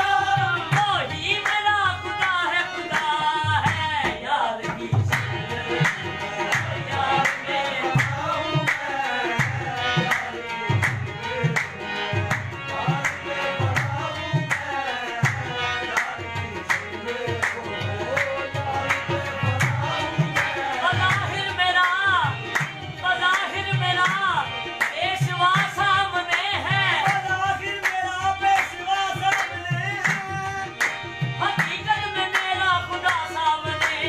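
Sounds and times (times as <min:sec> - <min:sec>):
harmoniums: 0:00.0 - 0:34.0
man singing: 0:00.0 - 0:34.0
tabla beat: 0:00.0 - 0:34.0.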